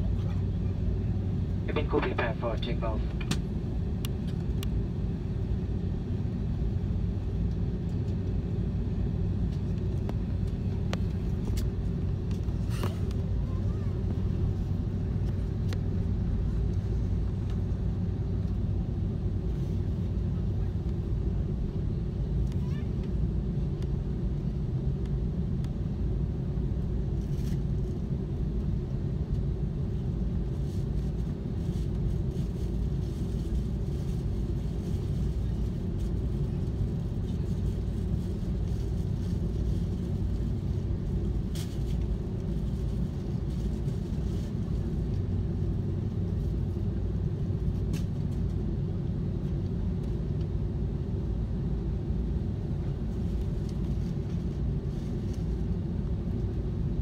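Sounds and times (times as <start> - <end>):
airplane engines humming: 0.0 - 57.0.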